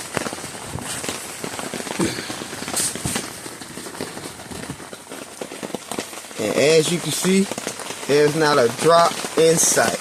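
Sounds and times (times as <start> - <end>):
rain drumming on a tent: 0.0 - 10.0.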